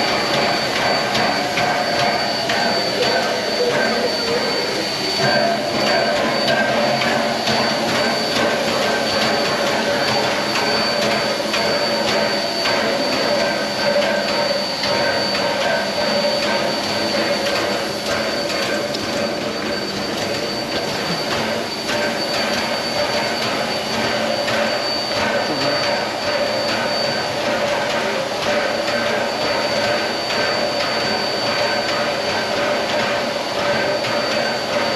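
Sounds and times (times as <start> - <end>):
constant high tone: 0.0 - 32.6
steam locomotive hissing: 0.0 - 34.9.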